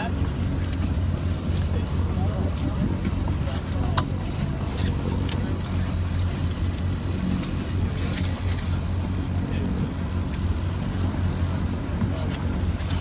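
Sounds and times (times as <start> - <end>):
boat engine humming: 0.0 - 13.0
wind and sea hiss: 0.0 - 13.0.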